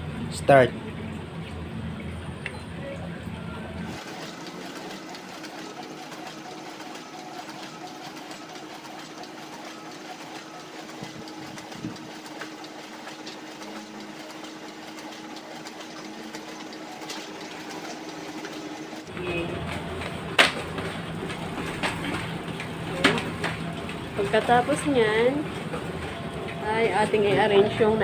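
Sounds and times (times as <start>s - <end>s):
photocopier whirring: 2.6s - 28.0s.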